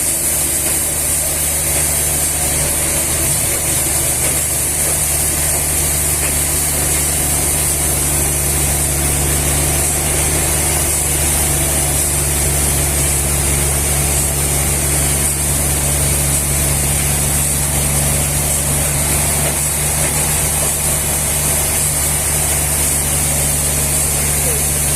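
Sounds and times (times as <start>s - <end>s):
machine humming with high hiss: 0.0s - 24.9s.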